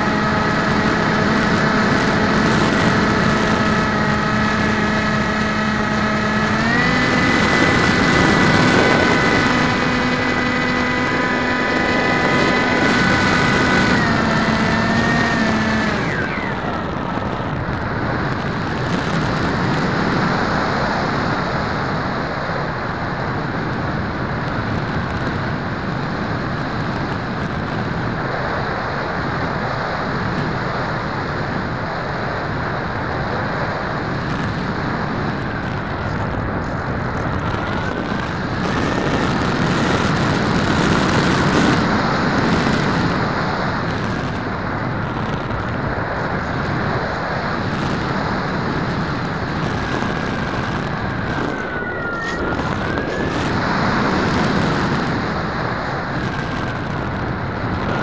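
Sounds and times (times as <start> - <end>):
model jet motor and propeller: 0.0 - 58.0
wind rushing past airframe: 0.0 - 58.0.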